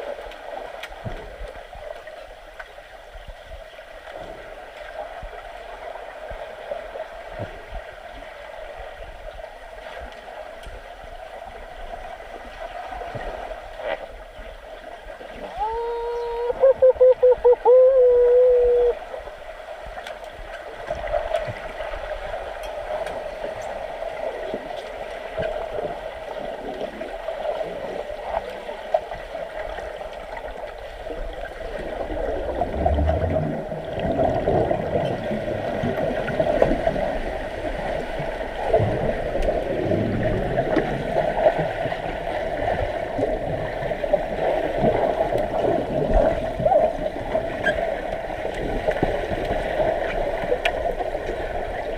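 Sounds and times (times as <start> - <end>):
pool water churned by swimmers: 0.0 - 51.9.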